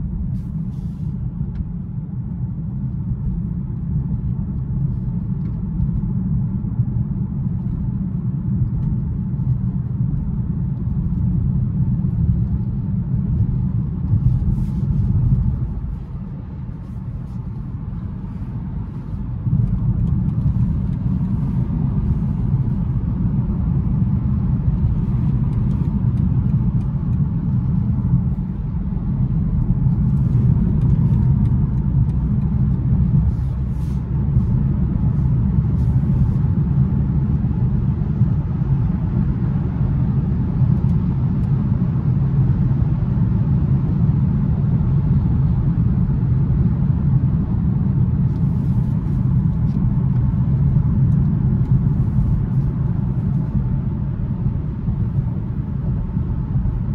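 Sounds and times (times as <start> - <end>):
car cabin road rumble: 0.0 - 56.9.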